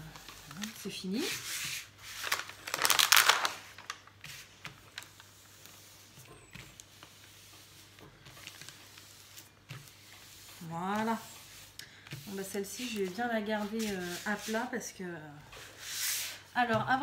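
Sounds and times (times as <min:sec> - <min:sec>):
paper sheet rustling and crinkling: 0:00.0 - 0:14.9
hands rubbing and tapping paper: 0:00.1 - 0:14.7.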